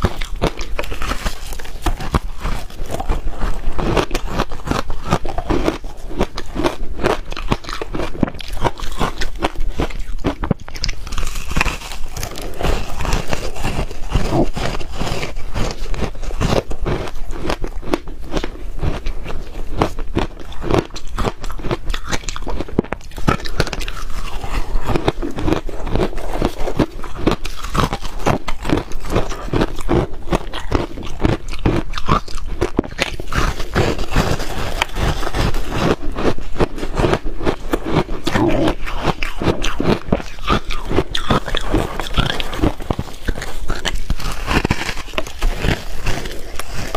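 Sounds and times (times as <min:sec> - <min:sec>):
chewing crushed ice: 0:00.0 - 0:46.9.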